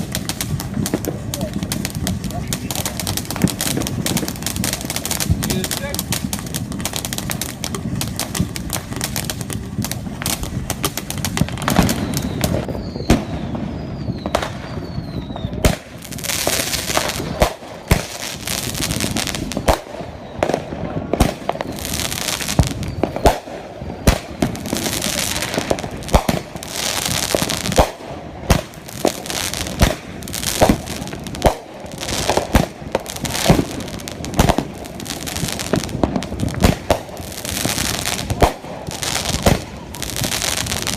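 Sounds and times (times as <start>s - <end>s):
falling firework whistles: 0.0s - 40.9s
firecrackers popping: 0.0s - 40.9s.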